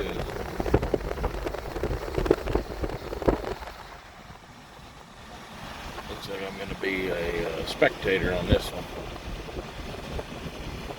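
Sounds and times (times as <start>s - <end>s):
pickup rolling over rough road: 0.0s - 10.9s.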